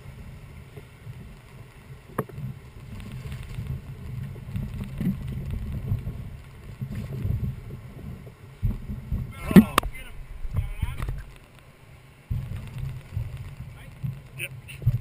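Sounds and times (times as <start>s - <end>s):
river noise: 0.0s - 15.0s
wind rumble on microphone: 0.0s - 15.0s.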